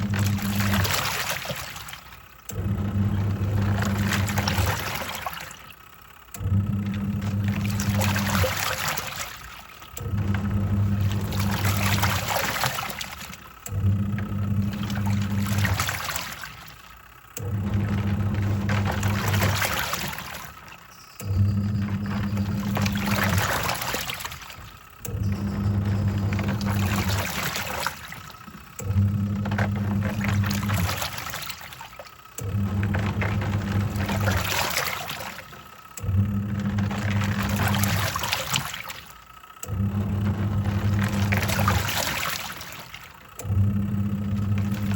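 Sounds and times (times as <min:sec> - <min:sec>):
washing machine motor humming: 0:00.0 - 0:44.9
water and clothes sloshing: 0:00.0 - 0:44.9.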